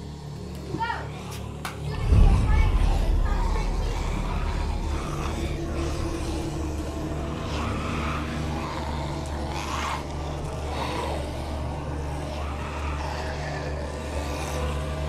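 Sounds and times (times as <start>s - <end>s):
low droning rumble: 1.8s - 15.0s.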